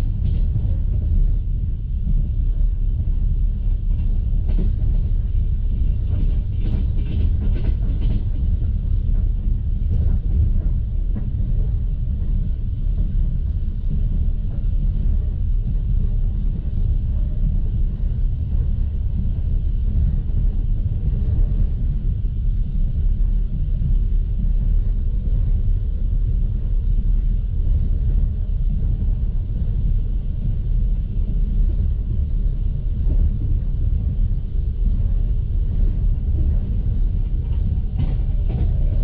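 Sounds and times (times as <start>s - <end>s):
train coach rumbling on track: 0.0s - 39.0s.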